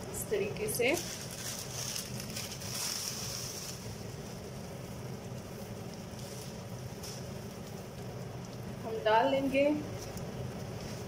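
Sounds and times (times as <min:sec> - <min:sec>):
low steady hum: 0:00.0 - 0:11.0
noodles sizzling in a pan: 0:00.0 - 0:11.0.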